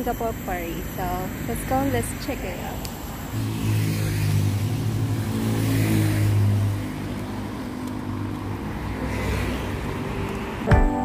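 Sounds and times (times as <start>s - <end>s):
passing vehicle engine and tyres: 0.0s - 10.7s
steady traffic noise: 0.0s - 10.8s.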